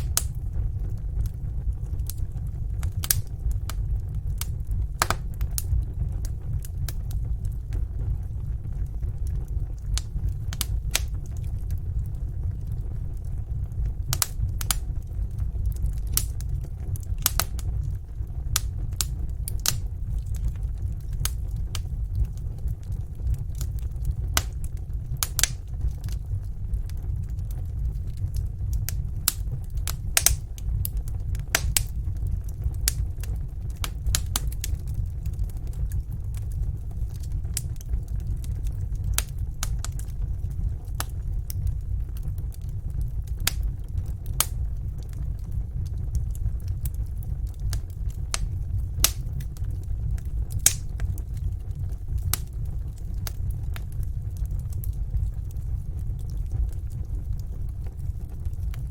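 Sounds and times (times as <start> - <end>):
low rumble: 0.0 - 58.9
wood fire crackling: 0.0 - 58.9.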